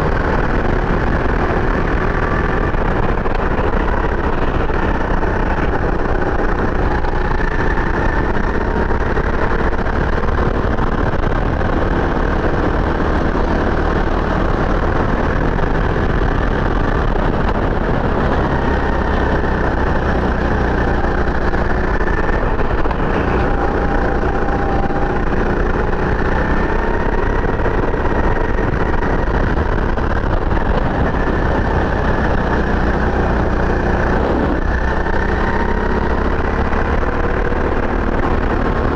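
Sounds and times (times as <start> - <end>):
kart engine revving: 0.0 - 38.9.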